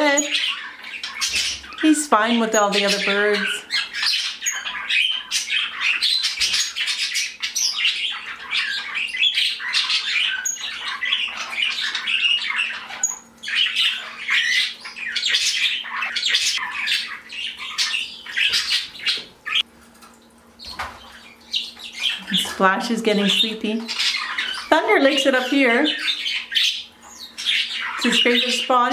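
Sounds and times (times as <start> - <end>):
parrots chattering and squawking: 0.0 - 28.9.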